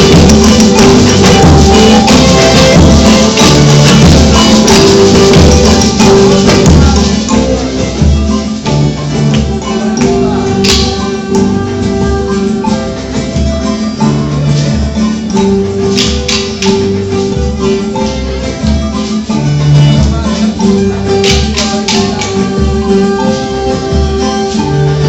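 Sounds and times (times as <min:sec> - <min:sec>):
sharp percussion strikes: 0:00.0 - 0:23.2
instrumental music: 0:00.0 - 0:25.0
low bass notes: 0:00.0 - 0:25.0.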